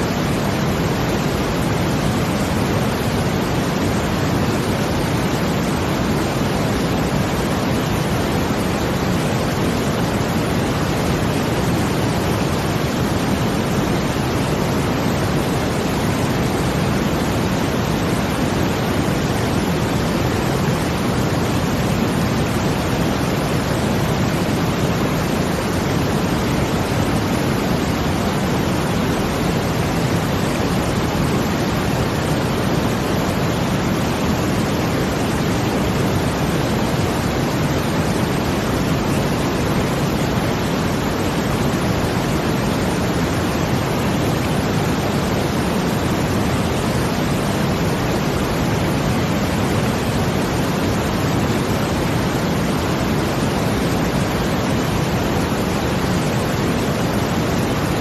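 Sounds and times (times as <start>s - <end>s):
brown noise: 0.0s - 58.0s
rushing water: 0.0s - 58.0s.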